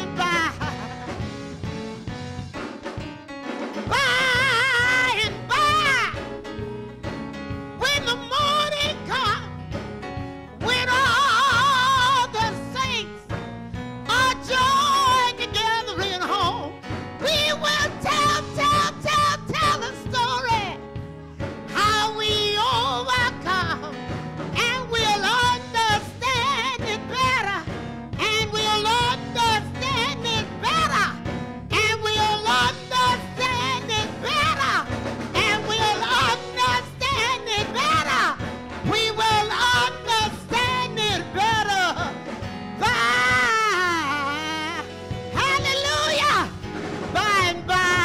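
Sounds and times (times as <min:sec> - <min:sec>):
woman singing gospel with vibrato: 0:00.0 - 0:01.2, 0:03.8 - 0:06.3, 0:07.8 - 0:09.5, 0:10.6 - 0:13.2, 0:14.1 - 0:20.8, 0:21.7 - 0:42.2, 0:42.8 - 0:48.0
instrumental accompaniment: 0:00.0 - 0:48.0.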